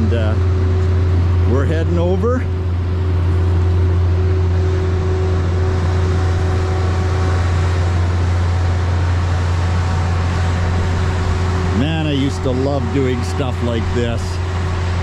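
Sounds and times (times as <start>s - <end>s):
diesel engine droning steadily: 0.0s - 15.0s.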